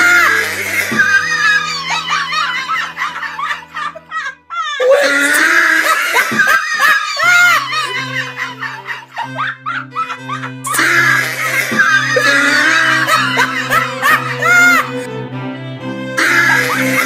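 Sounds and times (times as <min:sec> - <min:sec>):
people laughing: 0:00.0 - 0:15.1, 0:16.2 - 0:17.0.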